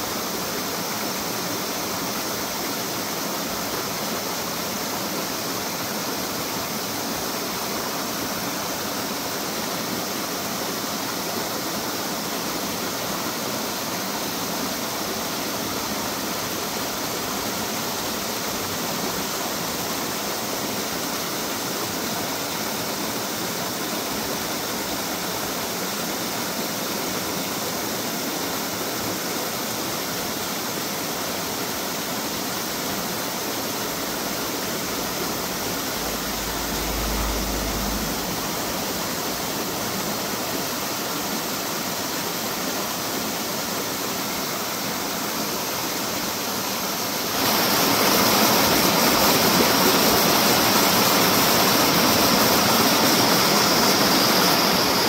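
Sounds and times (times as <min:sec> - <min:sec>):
small cascade pouring into pool: 0:00.0 - 0:55.0
stream running over rocks: 0:00.0 - 0:55.0.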